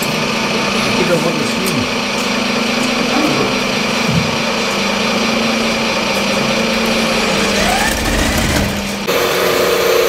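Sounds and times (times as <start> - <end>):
model bulldozer motor hum and whine: 0.0 - 10.0.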